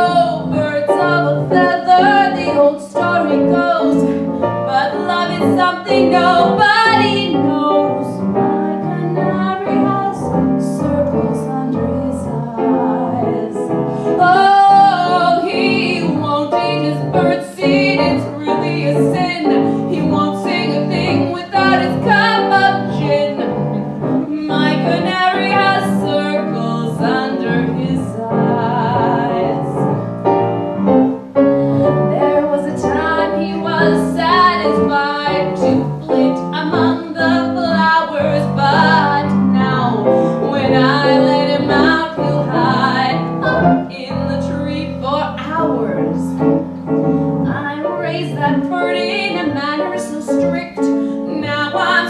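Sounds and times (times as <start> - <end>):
woman singing: 0.0 - 29.9, 31.9 - 46.5, 47.4 - 52.0
piano accompaniment: 0.0 - 52.0.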